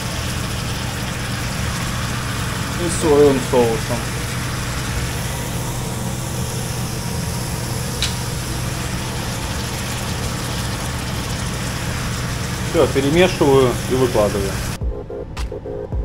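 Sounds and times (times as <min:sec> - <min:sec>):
food frying in pan: 0:00.0 - 0:14.8
machinery hum with hiss: 0:00.0 - 0:14.8.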